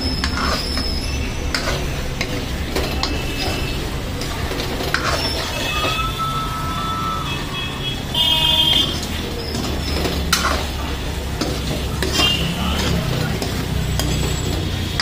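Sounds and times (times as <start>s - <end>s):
spoon scraping pan: 0.0s - 6.7s, 8.8s - 15.0s.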